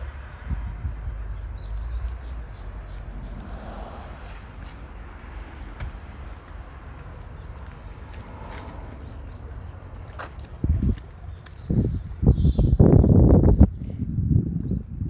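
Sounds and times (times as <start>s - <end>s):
insect chorus buzzing: 0.0s - 15.0s
wind rumbling on microphone: 0.0s - 15.0s.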